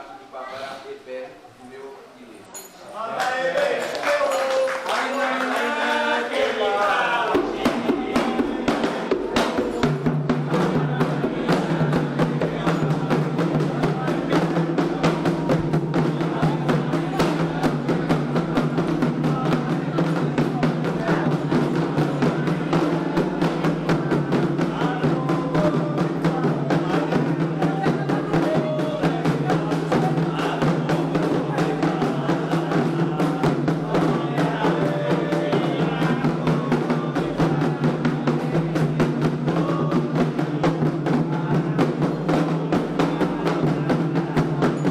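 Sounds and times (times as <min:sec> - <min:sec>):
voices faintly singing: 0:00.0 - 0:44.9
hand drums playing fast rhythm: 0:07.3 - 0:44.9.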